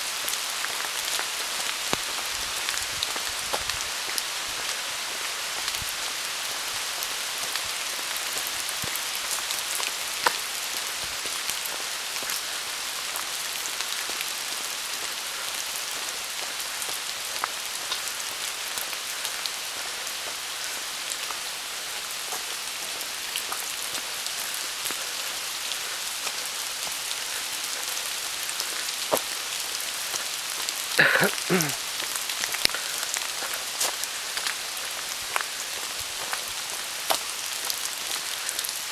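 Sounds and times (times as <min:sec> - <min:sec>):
rain falling on foliage: 0:00.0 - 0:38.9.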